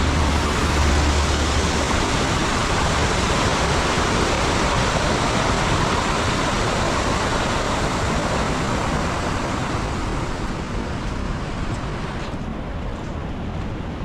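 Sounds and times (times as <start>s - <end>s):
heavy rain falling: 0.0s - 12.2s.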